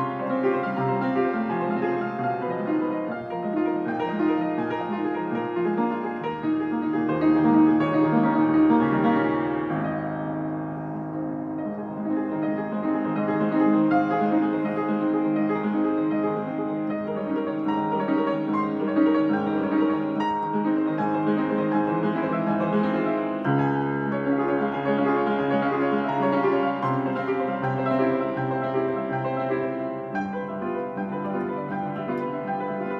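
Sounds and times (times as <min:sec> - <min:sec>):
solo acoustic piano piece: 0:00.0 - 0:32.9.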